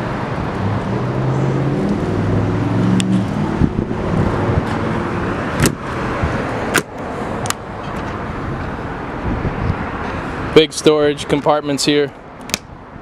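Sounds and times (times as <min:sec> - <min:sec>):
vehicle engine passing: 0:00.0 - 0:10.6.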